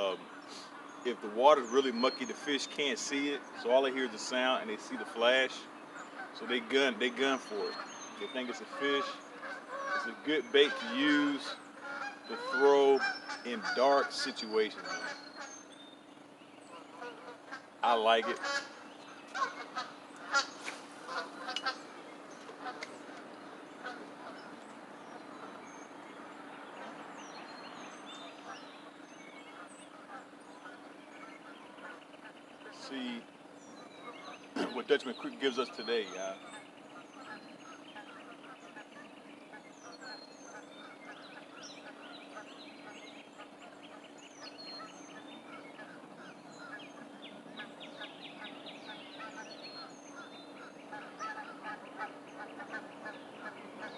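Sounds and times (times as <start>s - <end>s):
honking bird calls: 0.0s - 53.9s
small birds chirping: 0.0s - 53.9s
steady low hum: 0.0s - 53.9s.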